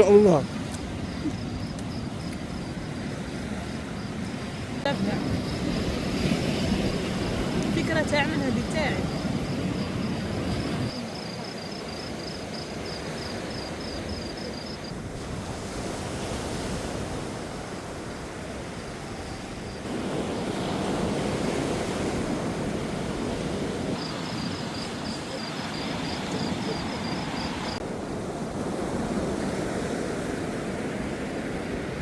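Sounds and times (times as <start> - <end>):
sea waves washing onto shore: 0.0 - 32.0
wind: 0.0 - 32.0.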